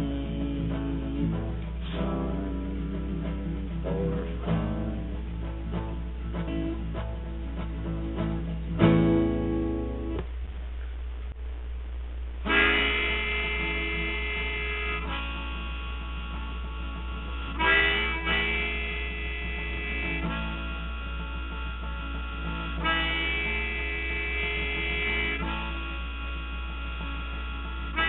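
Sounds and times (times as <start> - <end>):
harmonica playing chords: 0.0 - 10.2, 12.4 - 28.0
steady low hum: 0.0 - 28.0.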